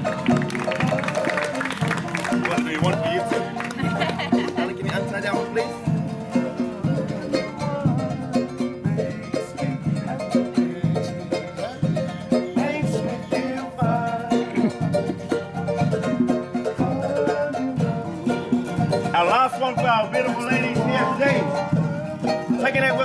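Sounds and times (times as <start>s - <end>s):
fast-strummed ukulele: 0.0s - 23.0s
steady drum beat: 0.0s - 23.0s.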